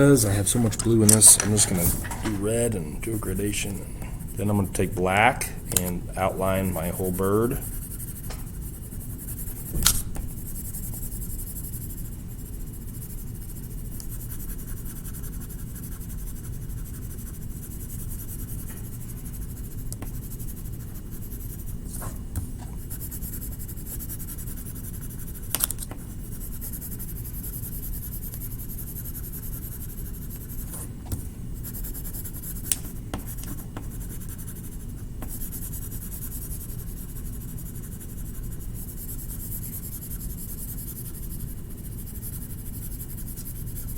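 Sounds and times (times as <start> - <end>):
colouring tool scratching on paper: 0.1 - 9.7, 10.3 - 31.0, 31.6 - 43.9.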